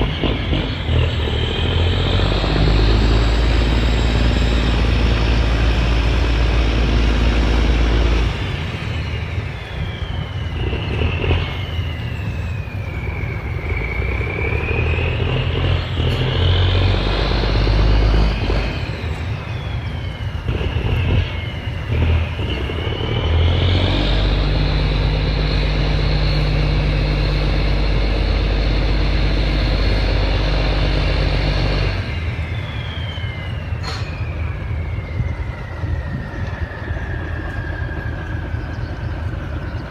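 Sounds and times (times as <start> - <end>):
boat diesel engine revving: 0.0 - 39.9
high engine whine: 0.0 - 39.9.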